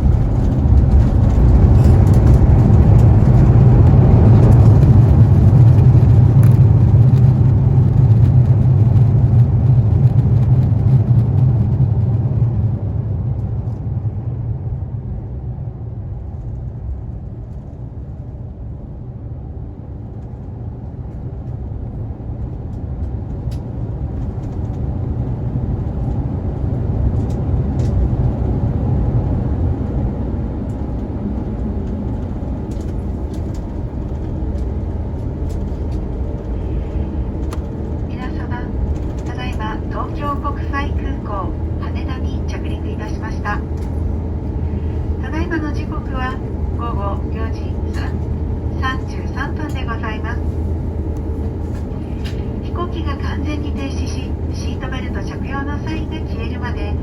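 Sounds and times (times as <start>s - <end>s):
jet engine rumble and rush: 0.0s - 57.0s.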